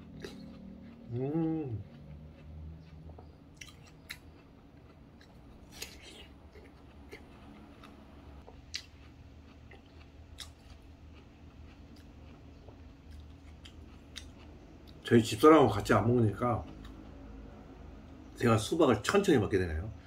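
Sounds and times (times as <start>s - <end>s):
person chewing: 0.0s - 15.1s, 15.8s - 17.3s
low steady hum: 0.0s - 20.0s.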